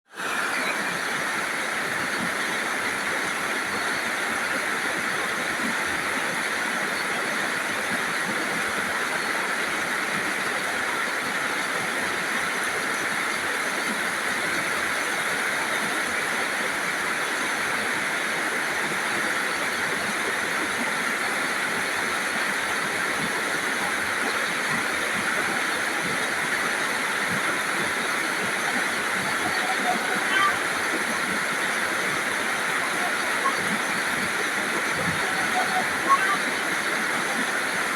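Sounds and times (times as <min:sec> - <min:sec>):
rain falling steadily: 0:00.1 - 0:37.9.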